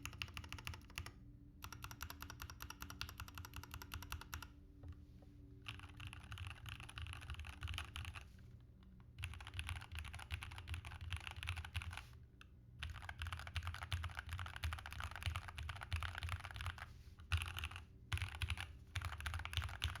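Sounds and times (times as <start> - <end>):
fast typing on mechanical keyboard: 0.0 - 4.5, 5.6 - 8.3, 9.2 - 12.0, 12.8 - 20.0.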